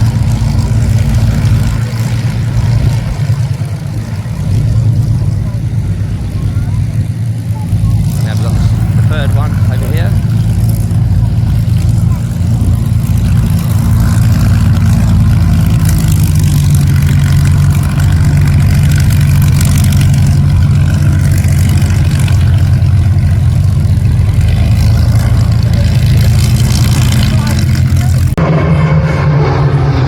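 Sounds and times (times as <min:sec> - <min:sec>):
aircraft piston engines throbbing: 0:00.0 - 0:30.0.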